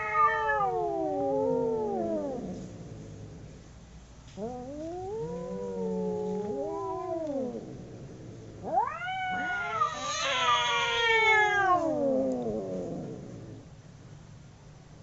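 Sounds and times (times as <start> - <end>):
cats caterwauling: 0.0 - 3.4, 4.4 - 13.6.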